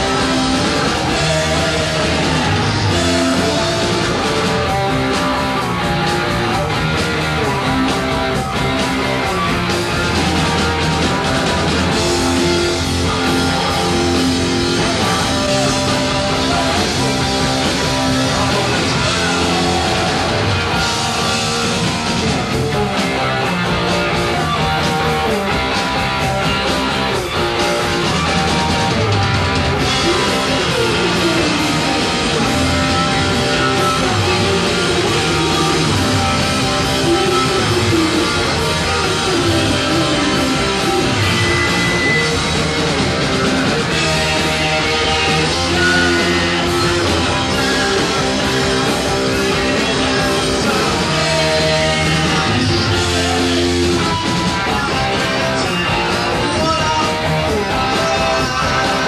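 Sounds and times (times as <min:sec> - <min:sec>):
bass guitar: 0:00.0 - 0:59.0
distorted electric guitar: 0:00.0 - 0:59.0
drum kit: 0:00.0 - 0:59.0.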